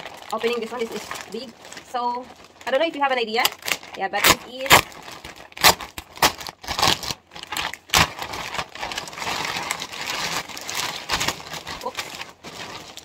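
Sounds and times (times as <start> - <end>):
plastic bag crinkling and rustling: 0.0 - 13.0.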